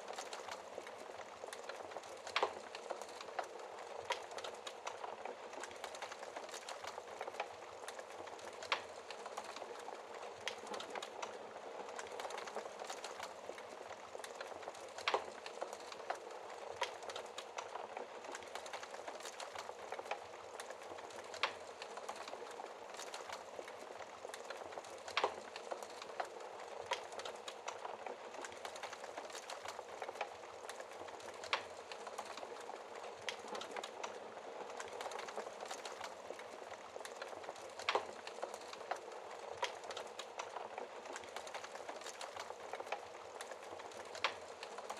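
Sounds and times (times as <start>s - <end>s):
fire popping: 0.0s - 44.9s
wood fire crackling: 0.0s - 44.9s.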